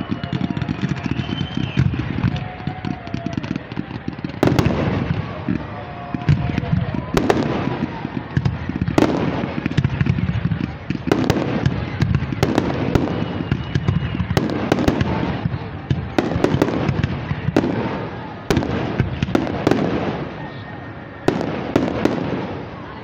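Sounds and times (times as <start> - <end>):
firework bangs: 0.0 - 23.0
fireworks crackling and rumbling: 0.0 - 23.0.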